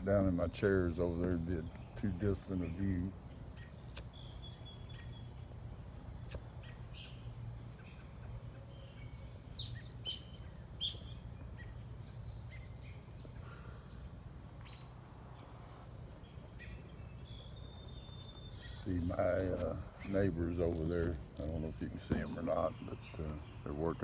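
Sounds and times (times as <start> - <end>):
songbirds chirping: 0.0 - 24.0
steady low hum: 0.0 - 24.0.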